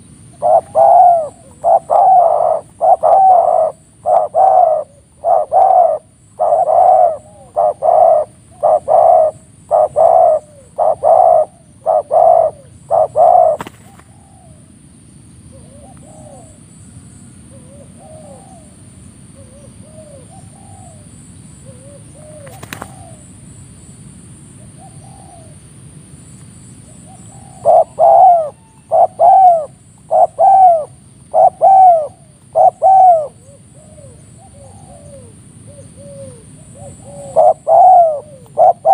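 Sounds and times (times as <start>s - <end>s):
doves cooing: 0.0s - 14.7s, 15.5s - 23.5s, 24.6s - 25.7s, 26.9s - 38.9s.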